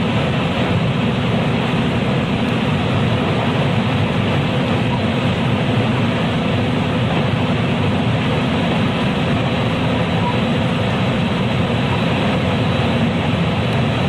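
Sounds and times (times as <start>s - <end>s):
traction motor hum: 0.0s - 14.0s
train wheels rumbling on rails: 0.0s - 14.0s.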